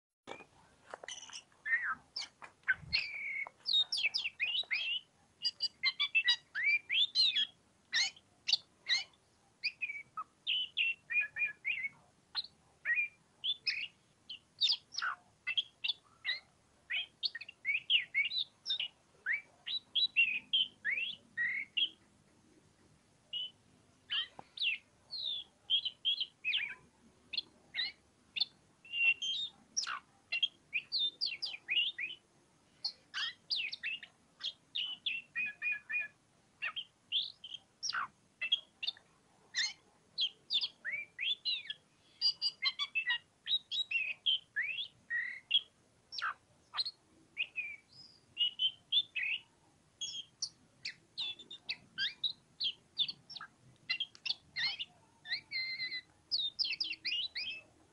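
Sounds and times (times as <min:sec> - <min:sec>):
bird singing whistled notes: 0:00.3 - 0:22.0, 0:23.2 - 0:32.2, 0:32.8 - 0:57.7.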